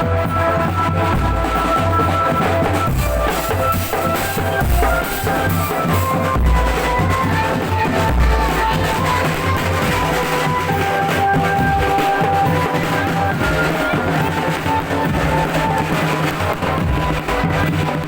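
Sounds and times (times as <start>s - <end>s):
sustained melody: 0.0s - 17.9s
bass drum and snare: 0.0s - 18.0s.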